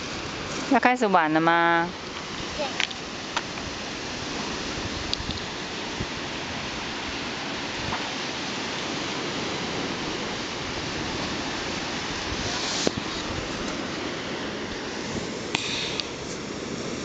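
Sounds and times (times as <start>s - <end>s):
surf washing onto sand: 0.0s - 17.0s.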